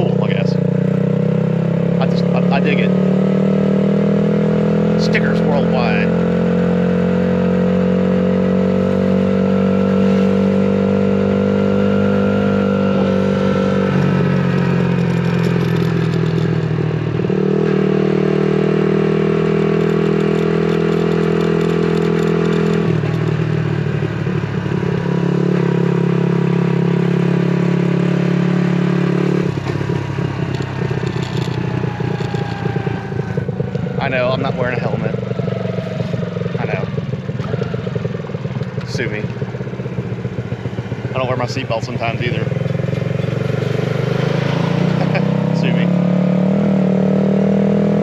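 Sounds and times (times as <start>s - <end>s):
motorbike engine running: 0.0s - 48.0s.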